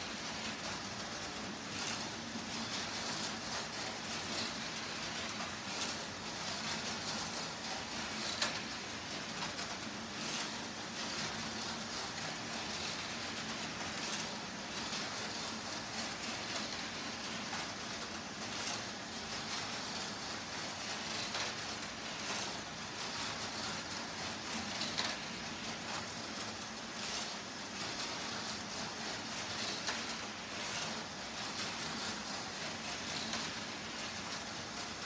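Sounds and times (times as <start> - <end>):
toy roller coaster rattling: 0.0 - 35.0.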